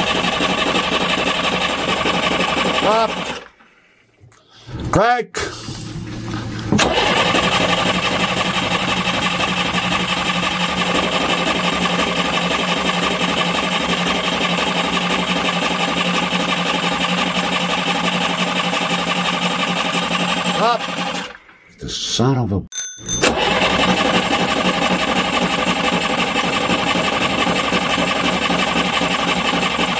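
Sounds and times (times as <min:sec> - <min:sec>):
diesel engine cranking on starter: 0:00.0 - 0:03.6, 0:05.8 - 0:21.7, 0:23.2 - 0:29.9.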